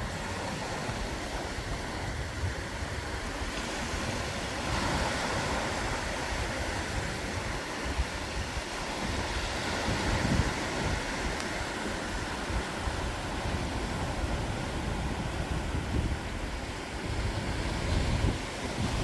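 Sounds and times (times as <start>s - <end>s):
ocean waves breaking: 0.0s - 19.0s
wind buffeting microphone: 0.0s - 19.0s.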